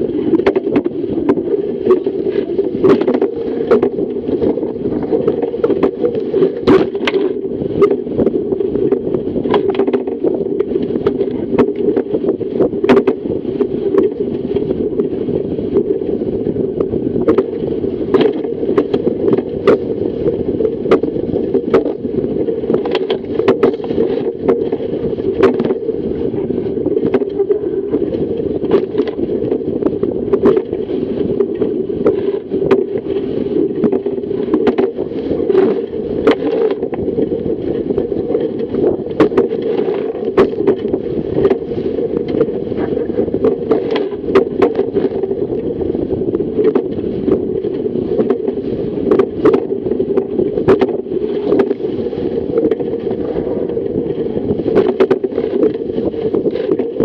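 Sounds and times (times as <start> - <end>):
boat hull rushing through water: 0.0 - 57.0
water slapping against hull: 0.0 - 57.0.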